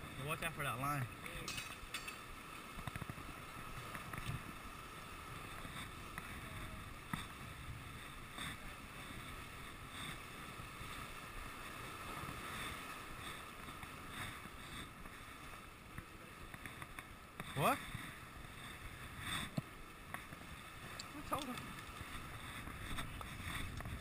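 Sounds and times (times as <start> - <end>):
rushing water: 0.0 - 24.0
wind: 0.0 - 24.0.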